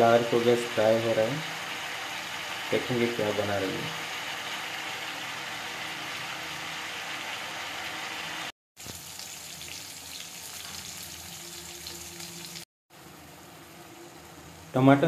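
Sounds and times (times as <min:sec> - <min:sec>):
oil sizzling with frying vegetables: 0:00.0 - 0:14.8.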